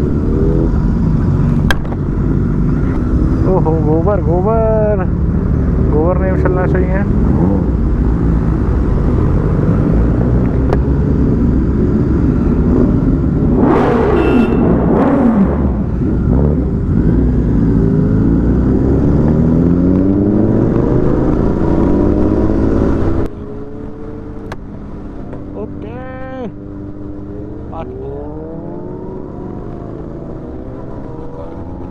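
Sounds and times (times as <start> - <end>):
heavy wind noise: 0.0 - 31.9
motorcycle engine at speed: 0.0 - 31.9.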